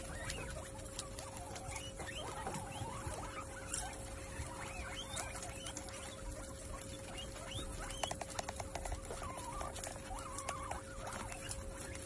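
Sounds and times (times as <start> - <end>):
faint steady hum: 0.0 - 12.0
guinea pigs squeaking: 0.0 - 12.0.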